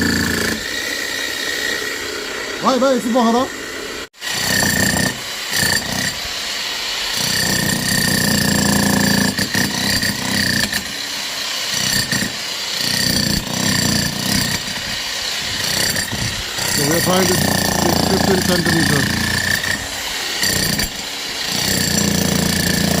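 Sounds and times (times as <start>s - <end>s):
power tool high whine: 0.0s - 23.0s.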